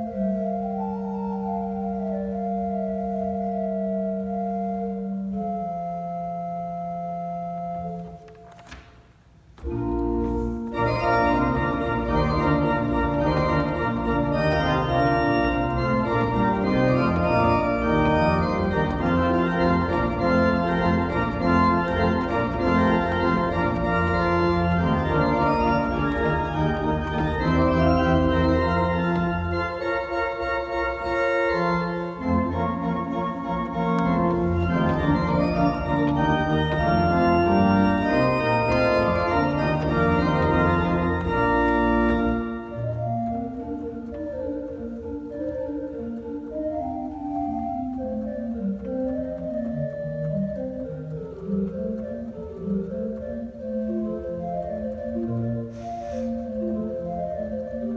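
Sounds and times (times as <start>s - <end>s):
deep organ pedal bass: 0.0s - 8.3s, 9.6s - 57.9s
church organ chords: 0.0s - 8.8s, 9.6s - 57.9s.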